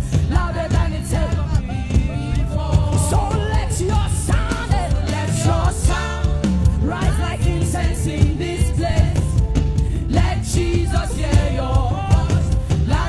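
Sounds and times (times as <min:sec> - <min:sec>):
drums and cymbals: 0:00.0 - 0:13.0
heavy bass line: 0:00.0 - 0:13.0.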